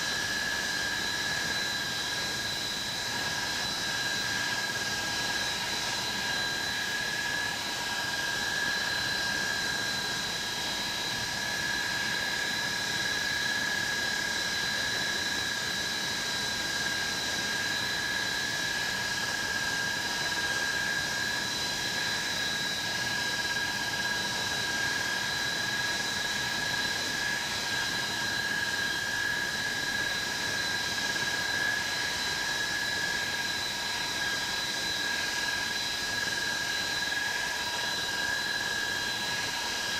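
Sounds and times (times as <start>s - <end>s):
high-pitched turbine whine: 0.0s - 39.9s.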